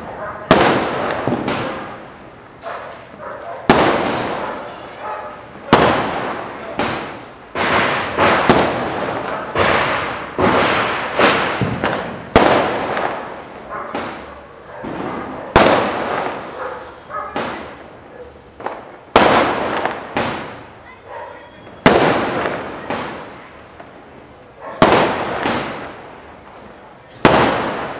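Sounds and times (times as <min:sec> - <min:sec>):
aerial fireworks bursting: 0:00.0 - 0:20.9, 0:21.6 - 0:24.1, 0:24.8 - 0:27.9.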